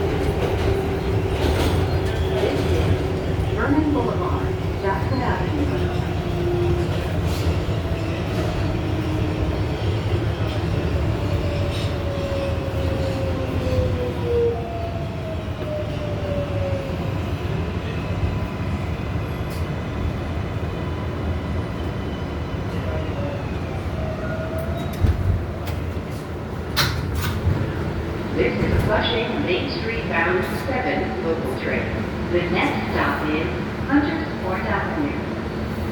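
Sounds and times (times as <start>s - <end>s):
subway wheels rumbling on rail: 0.0s - 35.9s.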